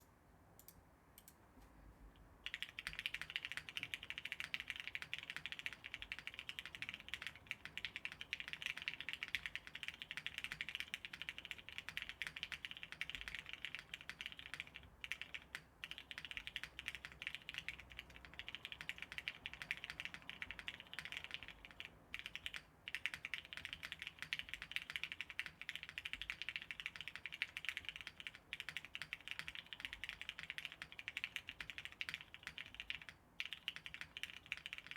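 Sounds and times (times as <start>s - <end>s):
fast typing on mechanical keyboard: 2.4s - 34.9s.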